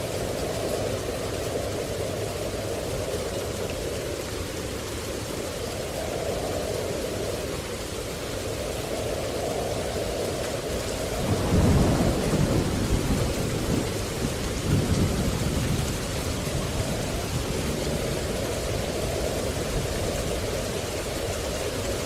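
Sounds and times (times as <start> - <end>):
low thunder rumble: 0.0 - 22.0
steady rain hiss: 0.0 - 22.0.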